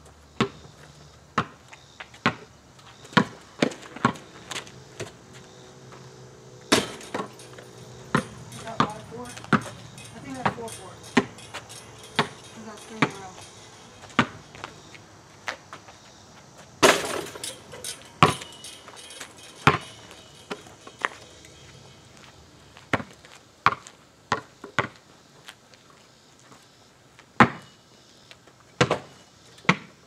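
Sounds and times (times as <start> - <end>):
basketball bouncing on asphalt: 0.3 - 25.0, 27.4 - 27.7, 28.8 - 29.9.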